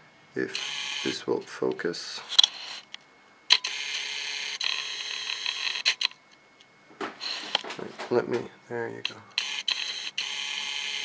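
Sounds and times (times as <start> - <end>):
lens autofocus motor whirring: 0.4 - 8.3, 9.0 - 11.0.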